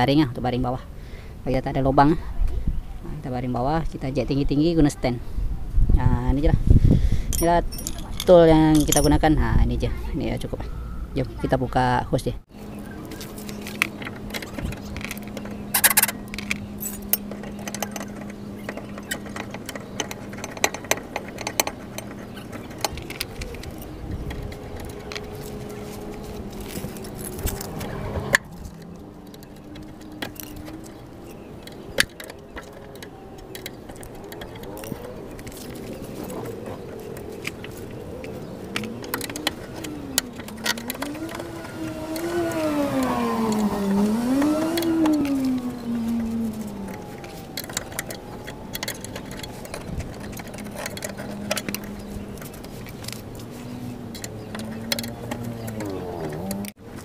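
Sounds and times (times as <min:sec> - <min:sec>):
hand tools clinking: 0:07.3 - 0:09.4, 0:13.2 - 0:57.0.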